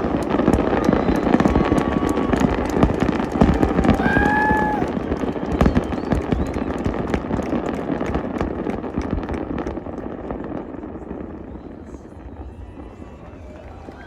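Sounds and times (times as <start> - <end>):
fireworks crackling pops: 0.0 - 14.0.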